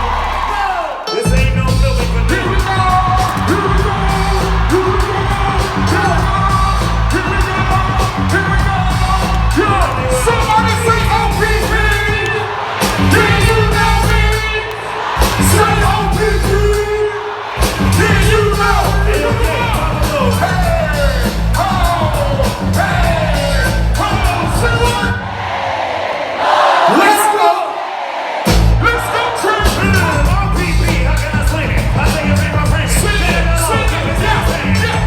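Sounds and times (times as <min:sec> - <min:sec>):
loud live concert music: 0:00.0 - 0:25.5, 0:28.4 - 0:35.0.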